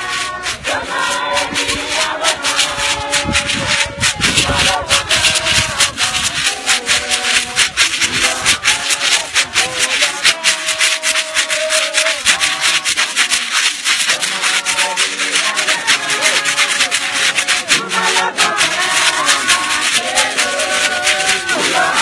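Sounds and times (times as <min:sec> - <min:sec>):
choir singing: 0:00.0 - 0:22.0
shaken rattles: 0:00.0 - 0:22.0.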